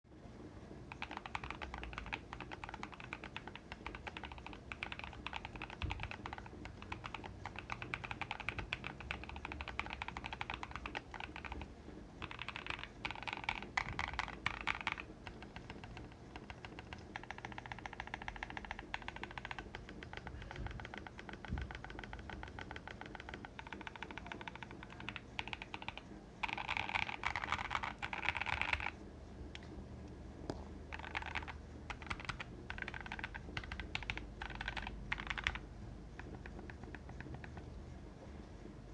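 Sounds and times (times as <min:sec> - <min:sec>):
fast typing on mechanical keyboard: 0:00.9 - 0:29.0, 0:30.9 - 0:37.7.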